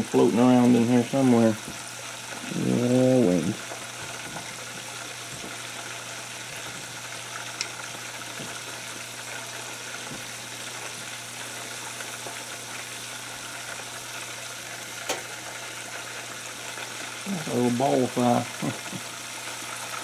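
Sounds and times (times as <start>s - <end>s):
chicken frying in oil: 0.0s - 20.0s.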